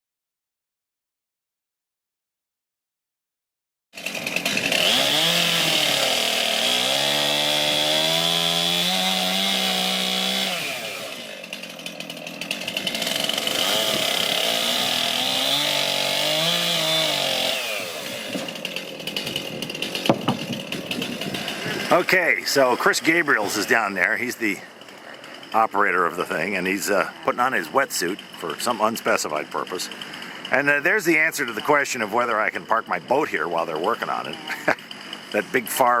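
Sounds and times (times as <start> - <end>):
chainsaw revving: 4.0 - 36.0.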